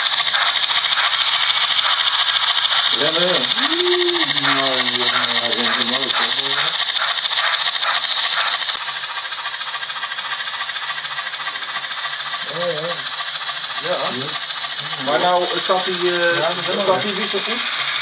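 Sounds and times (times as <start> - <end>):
model train wheels rattling on rails: 0.0 - 18.0.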